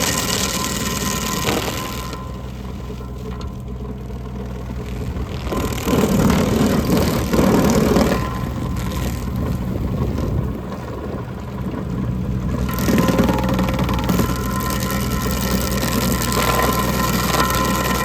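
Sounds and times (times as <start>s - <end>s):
stump grinder grinding wood: 0.0s - 18.0s
tractor engine running: 0.0s - 18.0s.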